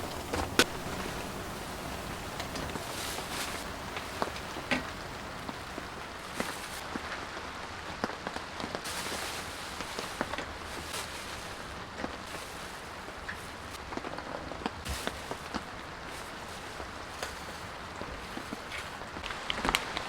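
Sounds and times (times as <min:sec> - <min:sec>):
raindrops tapping a surface: 0:00.0 - 0:20.0
steady rain hissing: 0:00.0 - 0:20.0.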